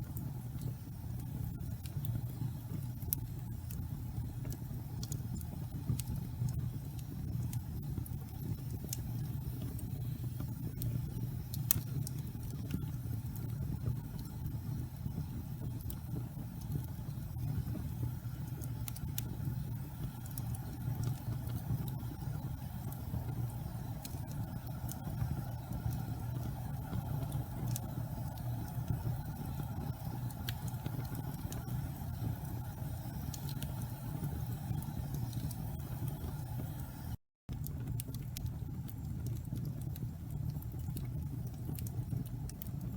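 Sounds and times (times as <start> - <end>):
crackles and pops of burning logs: 0.0 - 42.9
wood fire rumbling: 0.0 - 42.9.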